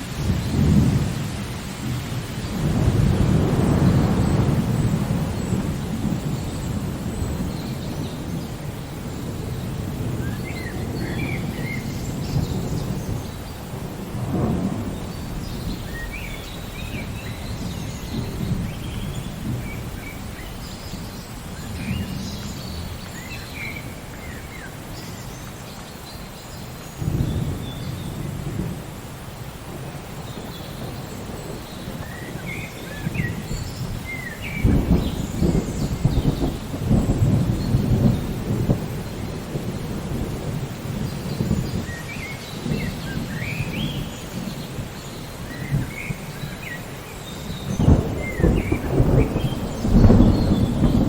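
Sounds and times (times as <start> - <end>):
rolling thunder: 0.0 - 25.2, 27.0 - 51.0
steady rain: 0.0 - 51.0.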